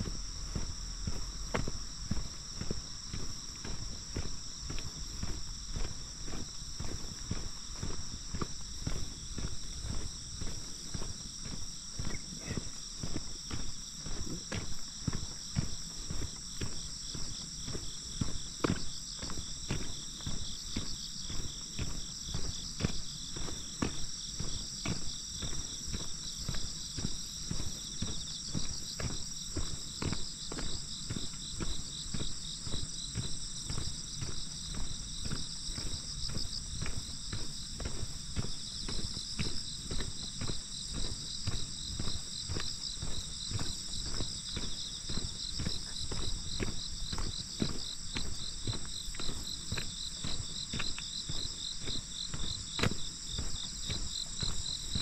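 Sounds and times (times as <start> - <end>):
footsteps on wet asphalt: 0.0 - 55.0
insects singing: 0.0 - 55.0.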